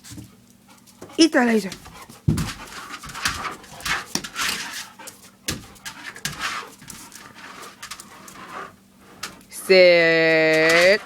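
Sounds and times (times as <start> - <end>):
dog panting: 0.1 - 9.5.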